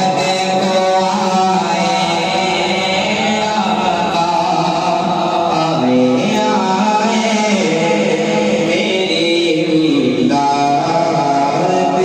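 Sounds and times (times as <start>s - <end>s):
young man singing into microphone: 0.0s - 12.0s.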